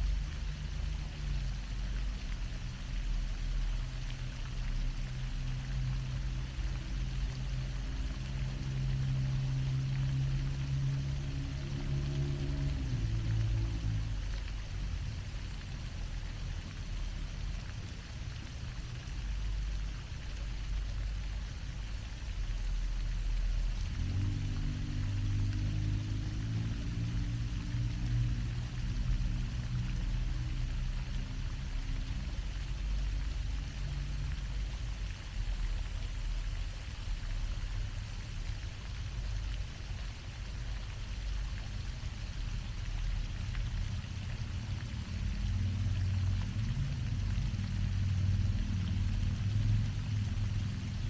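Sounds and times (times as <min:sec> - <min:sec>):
fountain water splashing: 0:00.0 - 0:51.0
low rumble: 0:03.8 - 0:22.0, 0:22.7 - 0:38.2, 0:41.4 - 0:51.0.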